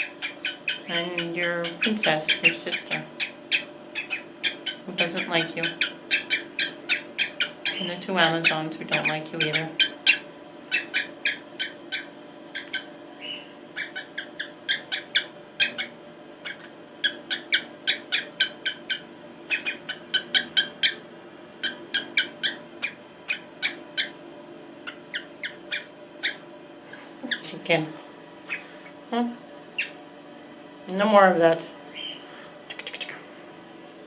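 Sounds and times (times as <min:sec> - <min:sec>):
cockatiel chirping: 0:00.0 - 0:21.0, 0:21.6 - 0:24.2, 0:24.8 - 0:27.4, 0:29.8 - 0:30.0, 0:31.9 - 0:33.0.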